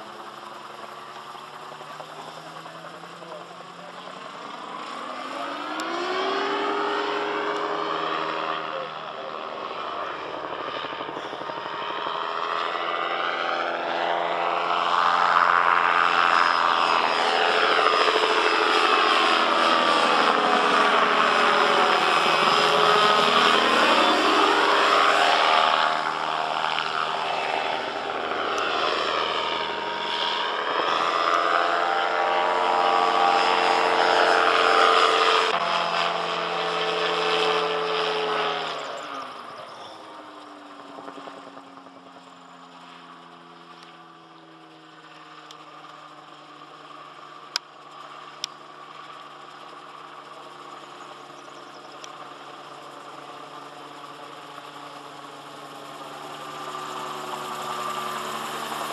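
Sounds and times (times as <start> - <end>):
gyrocopter engine and propeller: 0.0 - 58.9.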